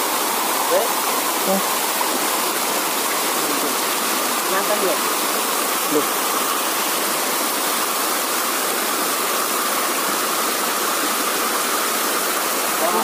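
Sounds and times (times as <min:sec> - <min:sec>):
stream pouring over rocks: 0:00.0 - 0:13.0.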